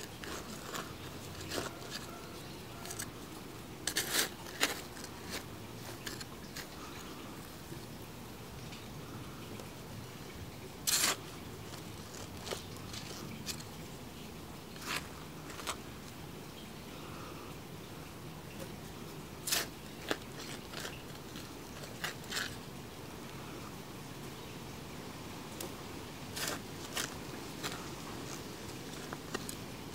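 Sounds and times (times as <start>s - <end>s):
faint background noise: 0.0s - 29.9s.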